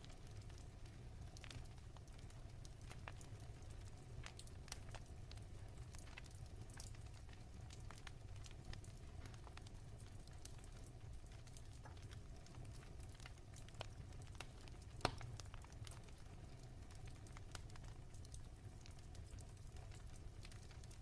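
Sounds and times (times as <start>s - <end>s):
low steady fire rumble: 0.0s - 21.0s
wood fire crackling and popping: 0.0s - 21.0s.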